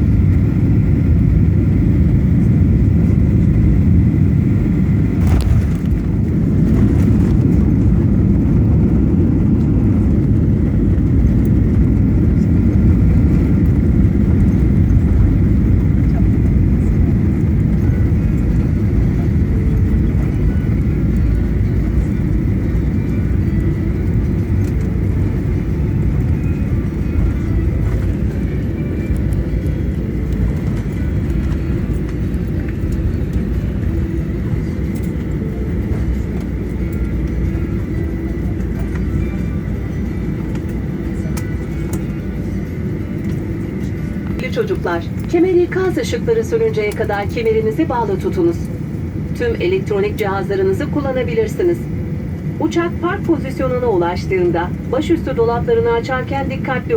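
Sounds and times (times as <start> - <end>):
airliner engine rumble in cabin: 0.0 - 56.9.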